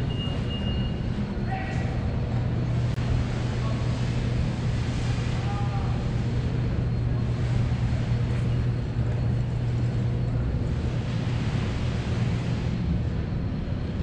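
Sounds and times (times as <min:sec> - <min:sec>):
distant crowd noise: 0:00.0 - 0:14.0.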